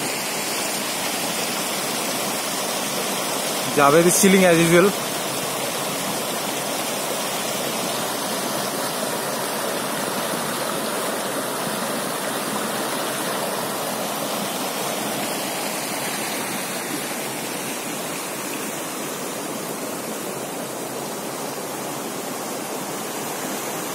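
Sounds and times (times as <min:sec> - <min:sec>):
stream rushing over boulders: 0:00.0 - 0:23.9.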